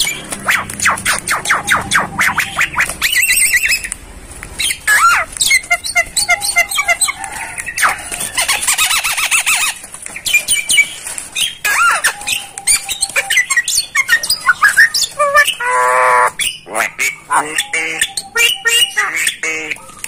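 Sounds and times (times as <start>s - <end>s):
myna chattering and squawking: 0.0s - 20.0s.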